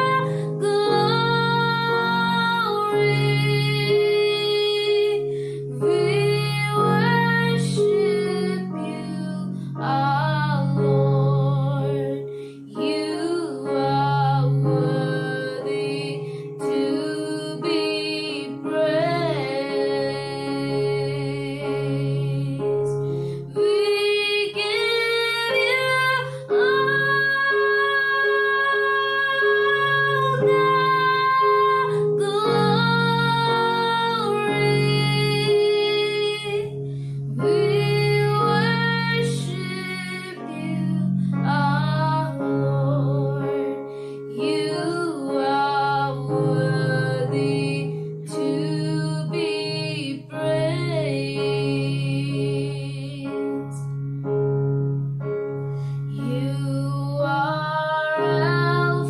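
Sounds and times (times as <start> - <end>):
woman singing: 0.0 - 53.8, 56.1 - 59.0.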